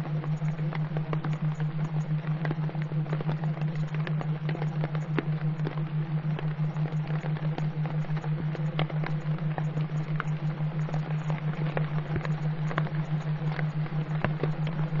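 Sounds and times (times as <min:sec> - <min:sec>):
low pulsing hum: 0:00.0 - 0:15.0.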